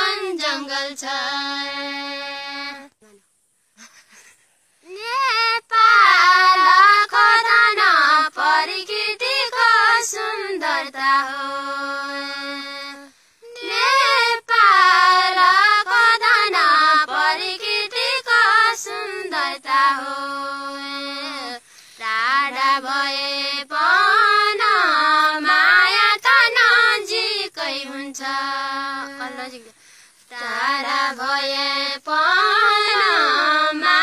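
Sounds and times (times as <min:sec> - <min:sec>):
women singing folk song: 0:00.0 - 0:03.2, 0:04.8 - 0:34.0.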